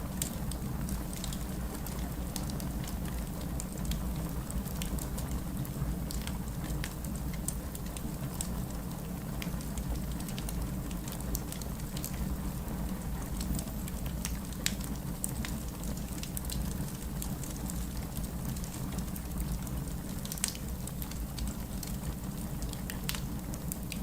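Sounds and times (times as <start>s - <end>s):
fireplace crackling: 4.7s - 24.0s.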